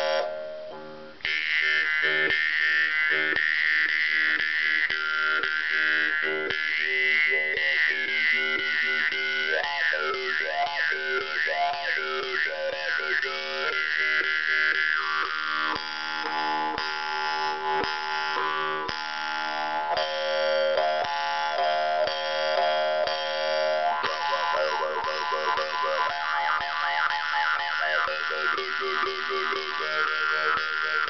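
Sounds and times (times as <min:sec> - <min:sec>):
jaw harp buzzing drone: 0:00.0 - 0:31.0.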